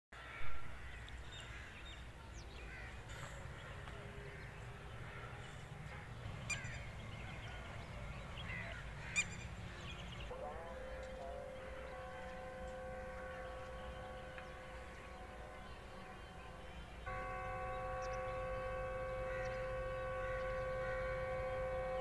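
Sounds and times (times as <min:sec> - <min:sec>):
birds chirping: 0:00.2 - 0:22.0
distant train horn: 0:02.6 - 0:22.0.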